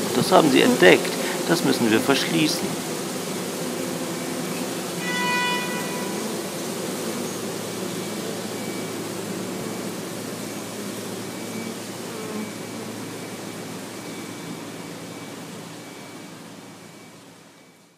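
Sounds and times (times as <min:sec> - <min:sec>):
honeybees buzzing: 0:00.0 - 0:17.8.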